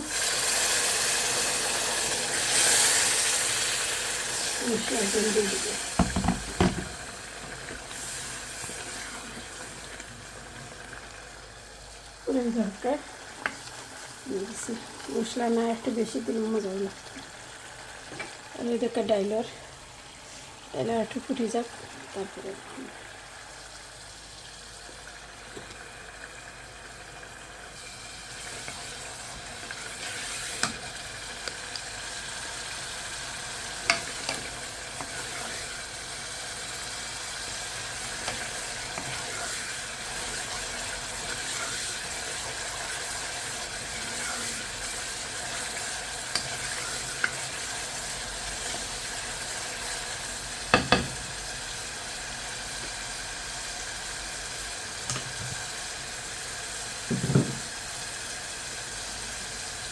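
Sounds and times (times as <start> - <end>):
masala sizzling in a pan: 0.0 - 59.9.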